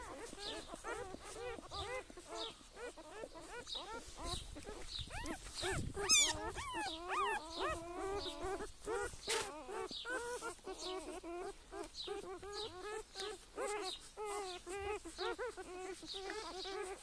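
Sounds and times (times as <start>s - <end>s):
cats meowing: 0.0s - 17.0s.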